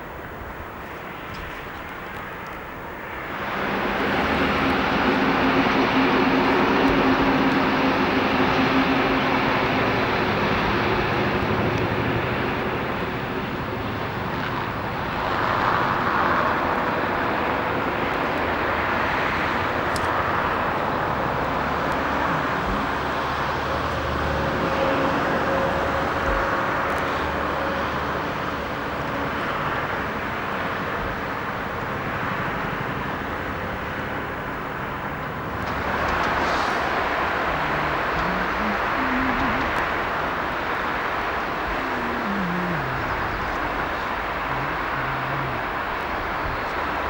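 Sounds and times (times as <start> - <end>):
diesel train running: 2.2 - 47.0
faint steady tones: 2.2 - 47.0.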